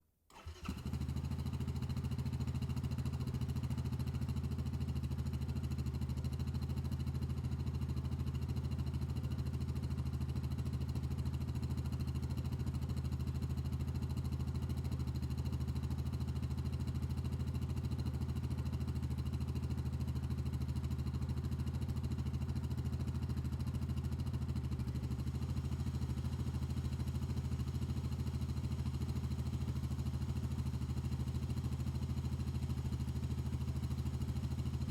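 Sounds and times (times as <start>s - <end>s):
quad engine running steadily: 0.4s - 34.9s.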